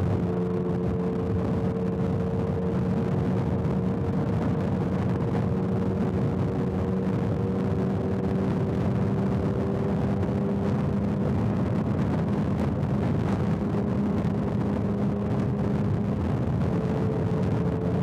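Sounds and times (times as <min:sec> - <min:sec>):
wind and road noise: 0:00.0 - 0:18.0.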